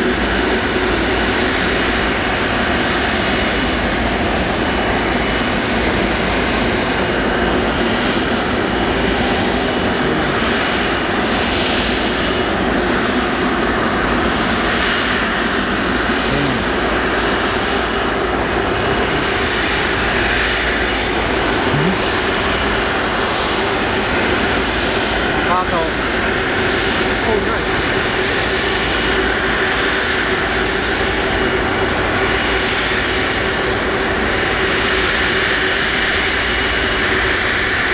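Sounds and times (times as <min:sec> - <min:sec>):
jet engines idling: 0:00.0 - 0:37.9.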